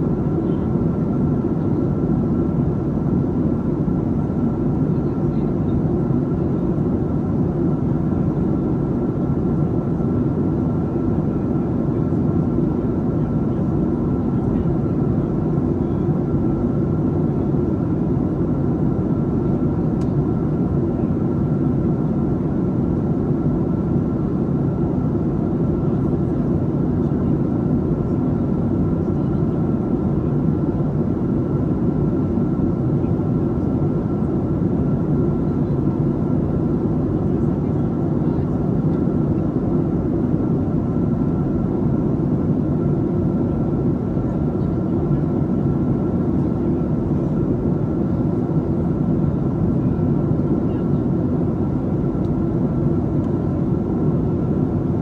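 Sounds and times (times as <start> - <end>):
jet engine drone: 0.0 - 55.0.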